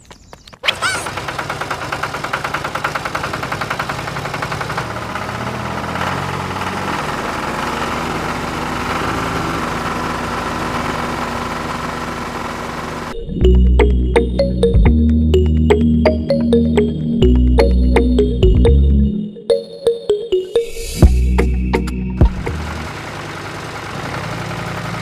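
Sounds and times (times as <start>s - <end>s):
tractor engine chugging: 0.6s - 19.0s, 21.0s - 25.0s.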